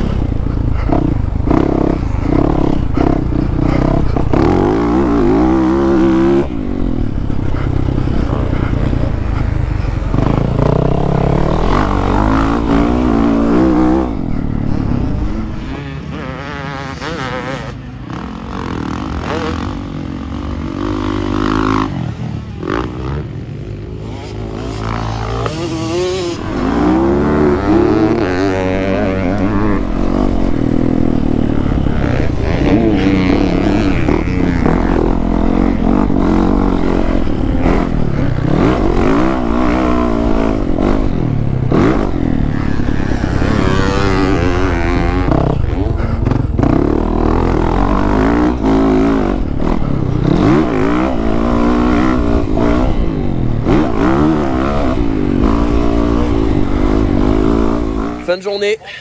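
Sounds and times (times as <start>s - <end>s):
motocross bike revving: 0.0s - 59.0s.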